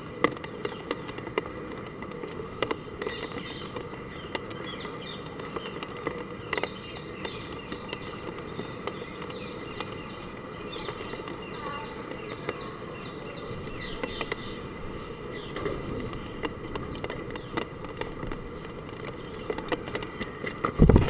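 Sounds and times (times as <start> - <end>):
raindrops clicking: 0.2 - 21.0.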